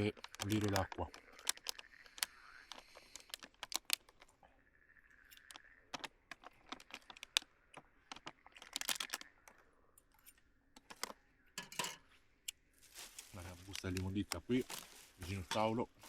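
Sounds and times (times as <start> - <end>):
small objects clicking and tapping: 0.0 - 15.7.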